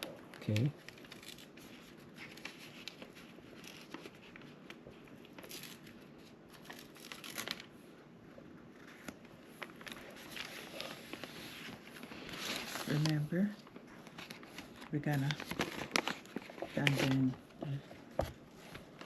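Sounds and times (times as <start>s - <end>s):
adhesive sheet crinkling: 0.1s - 7.8s, 8.8s - 17.4s.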